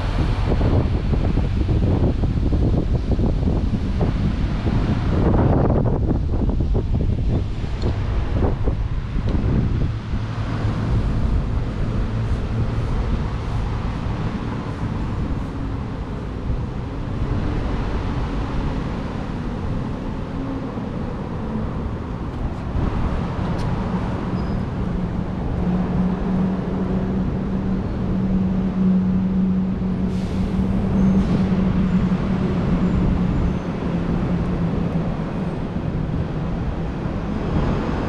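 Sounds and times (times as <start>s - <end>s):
engine-like hum: 0.0s - 38.0s
road traffic rumble: 0.0s - 38.0s.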